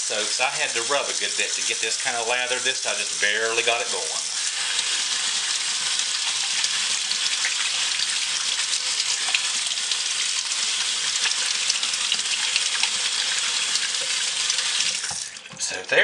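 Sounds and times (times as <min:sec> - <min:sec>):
tap water running into a sink: 0:00.0 - 0:16.0.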